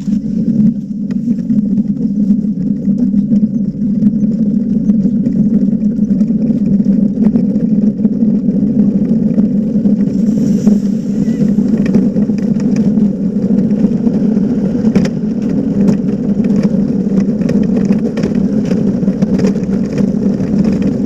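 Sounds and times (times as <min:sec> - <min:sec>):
sled runners rumbling on ice: 0:00.0 - 0:21.0.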